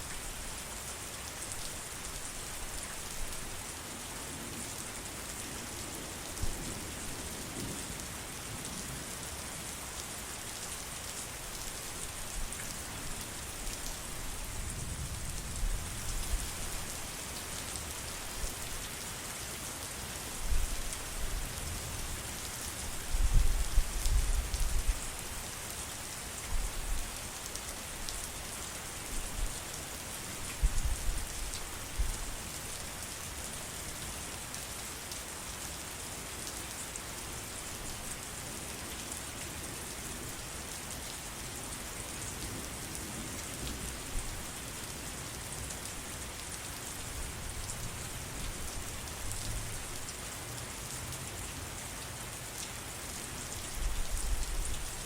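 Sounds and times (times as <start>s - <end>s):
rain falling on surfaces: 0.0s - 55.0s.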